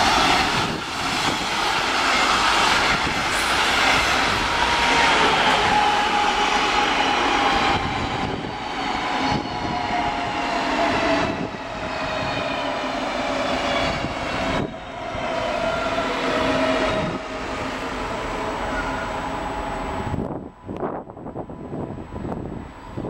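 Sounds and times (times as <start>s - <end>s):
diesel locomotive engine whine: 0.0s - 23.0s
train rolling noise: 0.0s - 23.0s.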